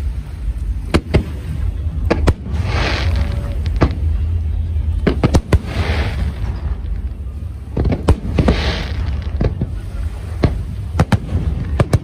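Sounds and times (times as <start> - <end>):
fireworks bangs: 0.0 - 12.0
hissing crackle: 0.0 - 12.0
steady low rumble: 0.0 - 12.0.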